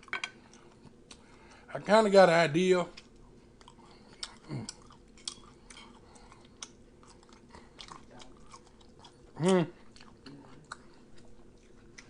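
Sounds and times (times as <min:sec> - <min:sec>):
person chewing food: 0:00.0 - 0:01.7, 0:02.9 - 0:12.0.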